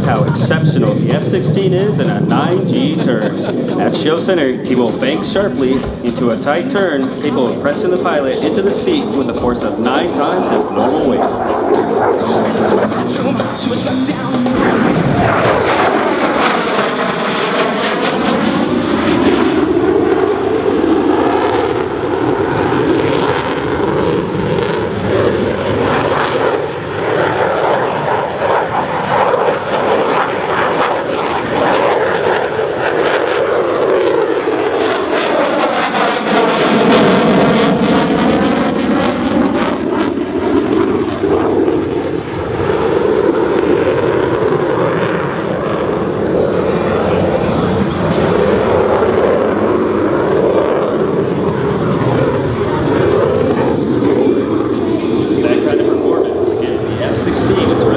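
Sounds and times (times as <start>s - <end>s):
fighter jet engine roar: 0.0s - 57.9s.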